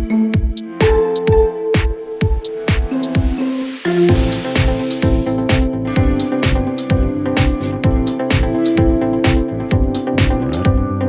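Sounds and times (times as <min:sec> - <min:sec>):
kick drum beat: 0:00.0 - 0:03.4, 0:04.1 - 0:11.0
electronic music: 0:00.0 - 0:11.0
sustained synth notes: 0:00.0 - 0:11.0.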